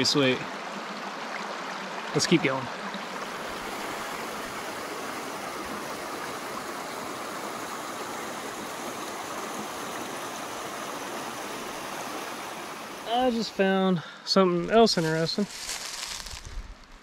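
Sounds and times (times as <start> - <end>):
creek rushing over stones: 0.0 - 17.0.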